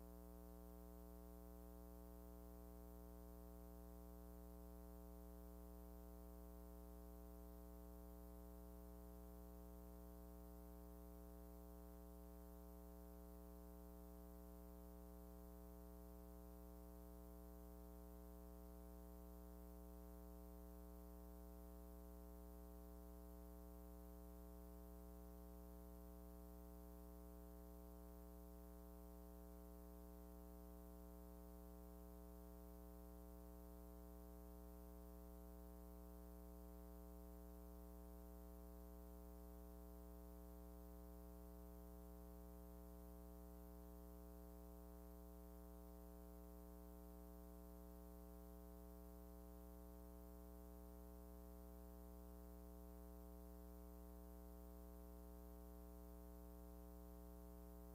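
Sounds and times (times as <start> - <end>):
faint electrical hum: 0.0 - 57.9.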